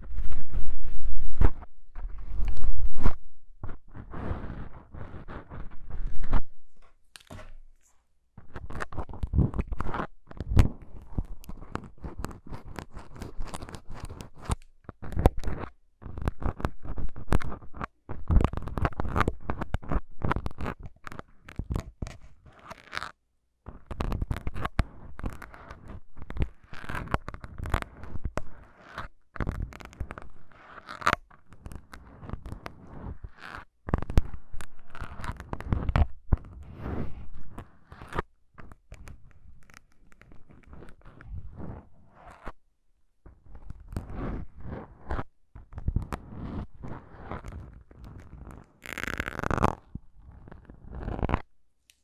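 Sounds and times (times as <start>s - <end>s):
scratching on microphone windscreen: 0.0s - 23.1s, 23.7s - 42.6s, 43.3s - 51.5s.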